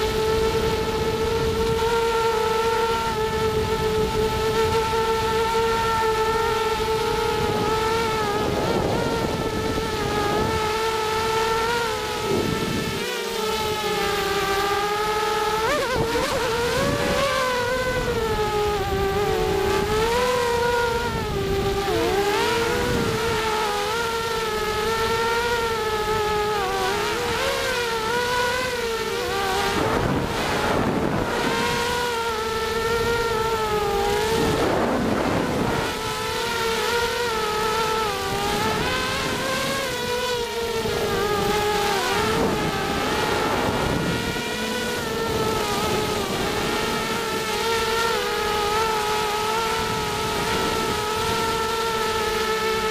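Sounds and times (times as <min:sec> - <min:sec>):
quadcopter motors whining: 0:00.0 - 0:52.9.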